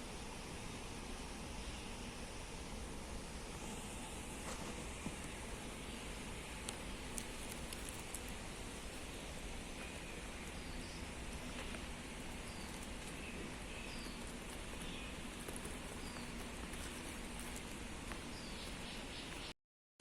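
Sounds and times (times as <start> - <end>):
steady rushing noise: 2.8 - 19.5.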